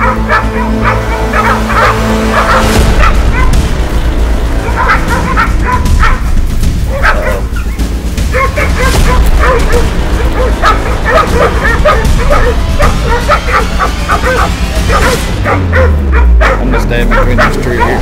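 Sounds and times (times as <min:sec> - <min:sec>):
dogs barking and yelping: 0:00.0 - 0:03.7, 0:04.4 - 0:18.0.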